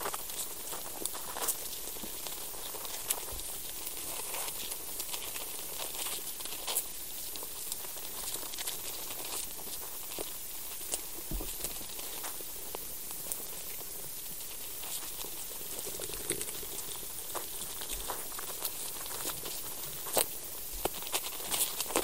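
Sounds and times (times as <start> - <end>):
small clicks and scratches: 0.0 - 22.0
steady high hiss: 0.0 - 22.0.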